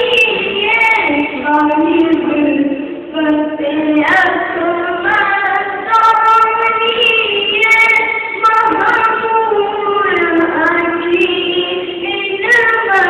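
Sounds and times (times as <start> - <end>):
boy singing unaccompanied: 0.0 - 13.0.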